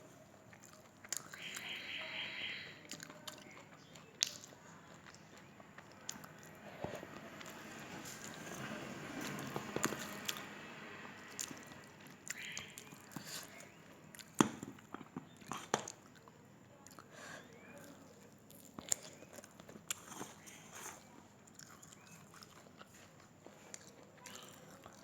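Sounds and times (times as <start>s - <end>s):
person chewing food: 0.0s - 1.8s, 2.8s - 25.0s.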